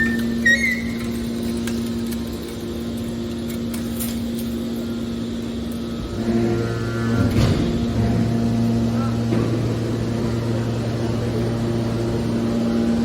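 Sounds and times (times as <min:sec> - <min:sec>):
hydraulic baler humming: 0:00.0 - 0:13.0.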